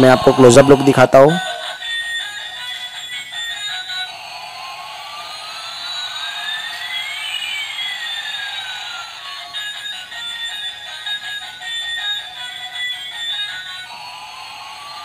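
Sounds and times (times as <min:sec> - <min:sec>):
toy electronic tune: 0:00.0 - 0:15.0
toy jet engine sound effect: 0:00.0 - 0:15.0.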